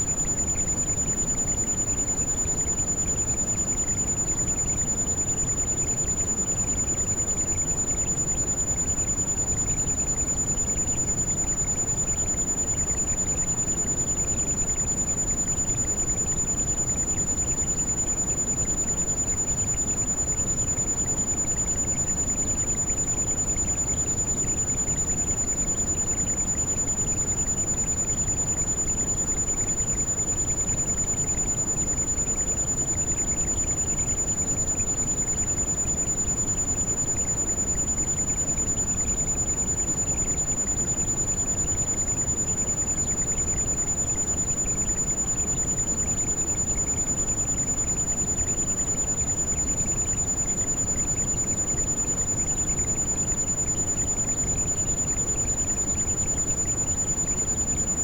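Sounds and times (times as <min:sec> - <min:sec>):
continuous high-pitched tone: 0:00.0 - 0:58.0.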